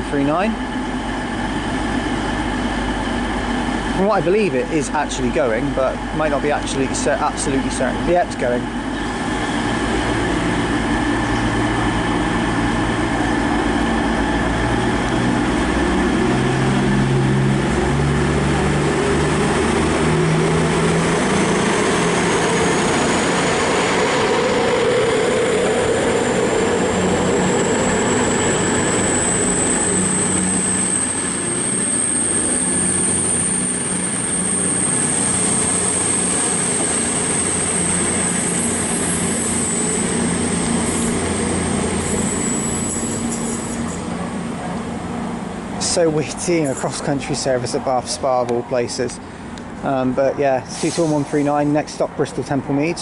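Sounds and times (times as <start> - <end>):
diesel train engines revving: 0.0 - 53.0
thin high whine: 0.0 - 53.0
train rushing: 0.0 - 53.0.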